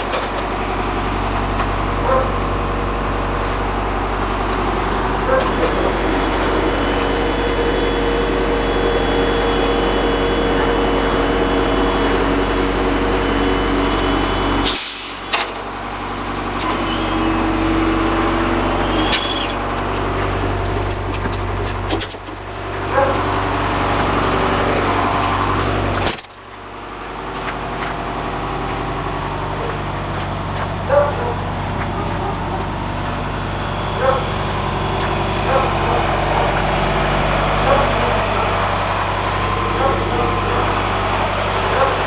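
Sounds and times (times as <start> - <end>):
hydraulic pump motor humming: 0.0 - 42.0.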